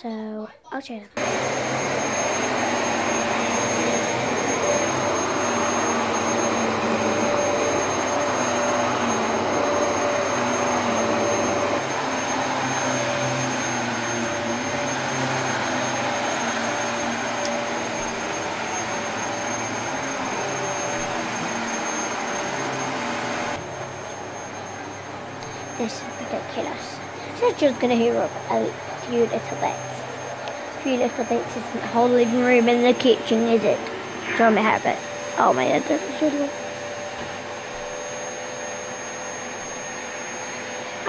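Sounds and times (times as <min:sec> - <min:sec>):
vacuum cleaner running: 0:01.2 - 0:41.0.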